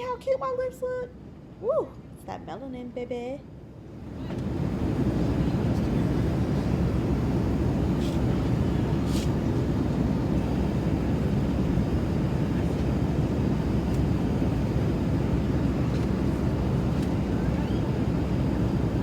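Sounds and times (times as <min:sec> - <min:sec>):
airliner cabin rumble: 0:03.4 - 0:19.0.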